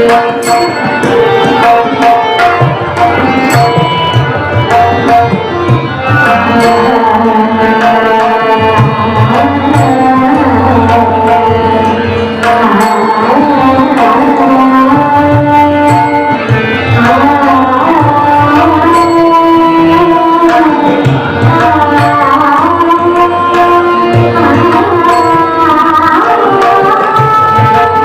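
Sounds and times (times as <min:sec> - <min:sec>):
tabla rhythm: 0:00.0 - 0:28.0.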